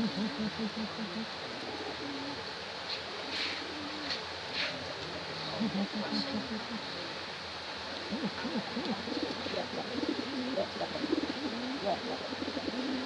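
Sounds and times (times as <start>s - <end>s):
pigeons cooing: 0.0s - 7.2s, 7.9s - 13.0s.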